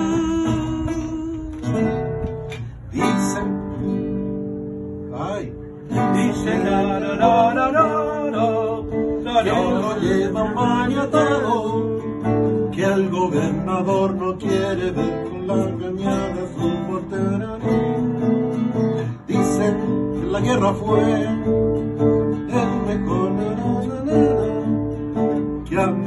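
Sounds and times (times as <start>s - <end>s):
acoustic guitars strumming: 0.0s - 26.0s.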